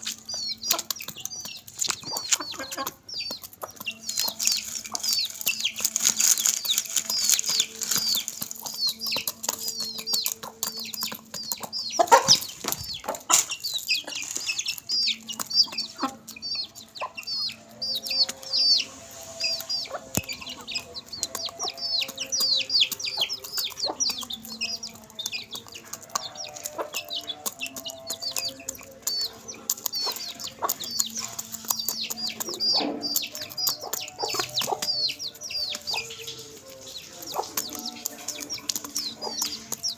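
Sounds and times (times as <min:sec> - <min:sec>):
beaks pecking clicks: 0:00.0 - 0:39.9
chickens clucking: 0:00.0 - 0:39.9
chicks peeping: 0:00.0 - 0:39.9.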